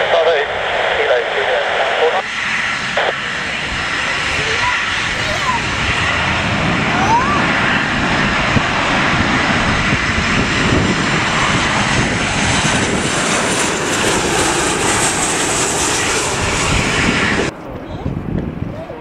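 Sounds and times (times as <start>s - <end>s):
thin high engine whine: 0.0s - 17.8s
jet engines rushing: 0.0s - 19.0s
wind: 0.0s - 19.0s.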